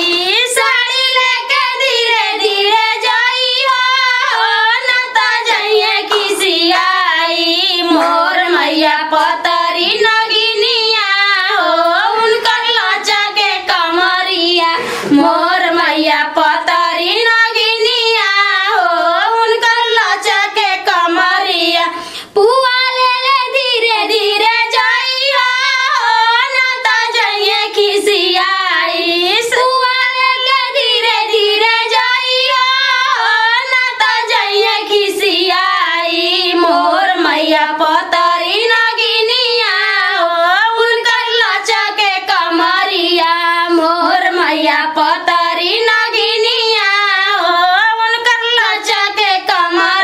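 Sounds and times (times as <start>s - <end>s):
women singing folk song: 0.0s - 50.0s.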